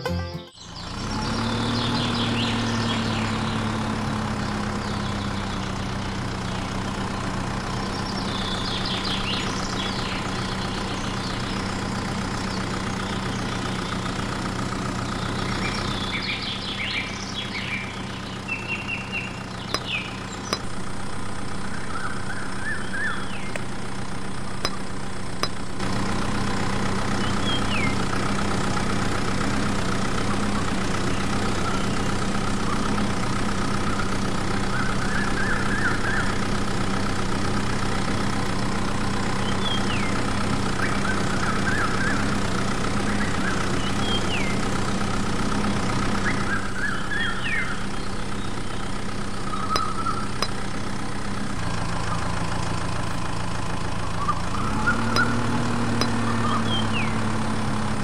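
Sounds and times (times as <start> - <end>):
birds chirping: 0.0 - 58.0
engine idling: 0.0 - 58.0.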